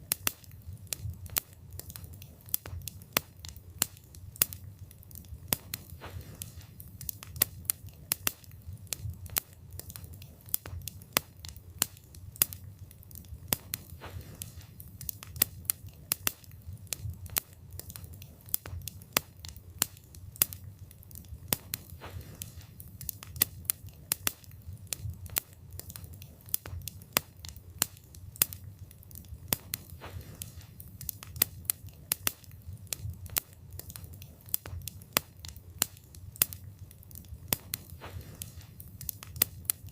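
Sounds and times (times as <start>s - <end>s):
burning wood crackling: 0.0s - 39.9s
low rumble of flames: 0.0s - 39.9s.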